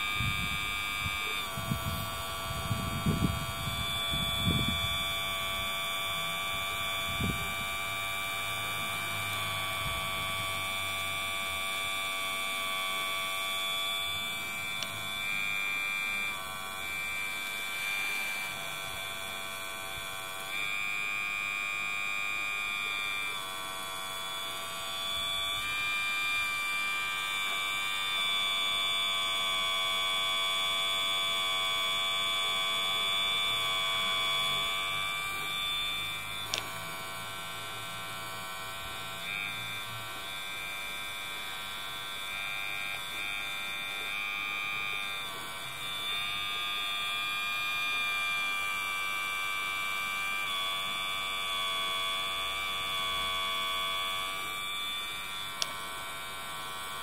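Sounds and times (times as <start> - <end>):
hydraulic pump whining: 0.0 - 57.0.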